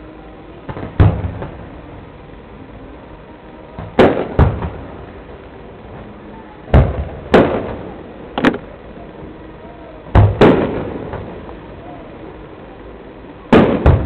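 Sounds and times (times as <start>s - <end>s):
fireworks bursting with echo: 0.0s - 14.0s.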